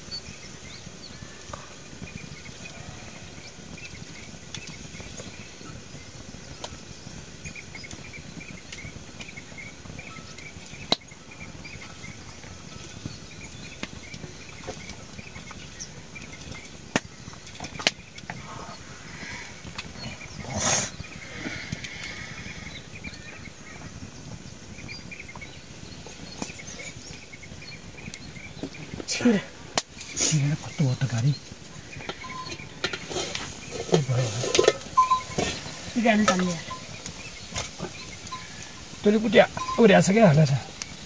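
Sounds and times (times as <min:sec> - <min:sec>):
faint rapid chirping: 0:00.0 - 0:41.0.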